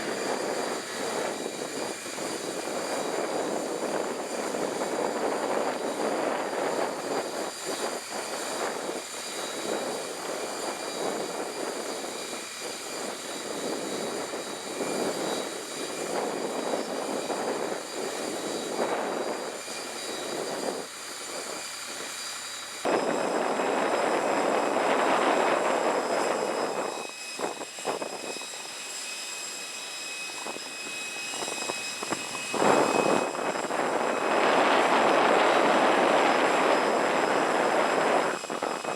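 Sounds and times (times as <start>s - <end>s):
jet aircraft whine and rush: 0.0s - 38.9s.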